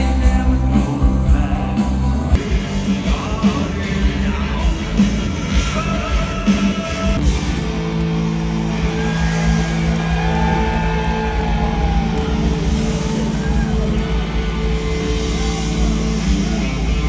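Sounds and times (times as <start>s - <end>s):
guitar chords: 0.0s - 17.0s
rock band playing live: 0.0s - 17.0s.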